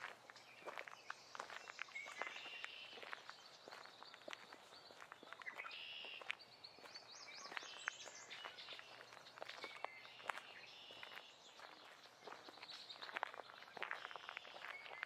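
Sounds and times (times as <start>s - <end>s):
faint footsteps on forest floor: 0.0s - 15.0s
birds singing: 0.3s - 15.0s.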